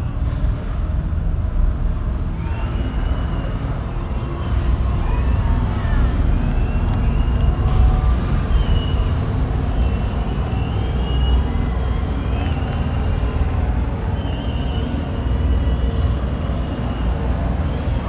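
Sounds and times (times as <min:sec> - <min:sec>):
deep rumble over loudspeakers: 0:00.0 - 0:18.0.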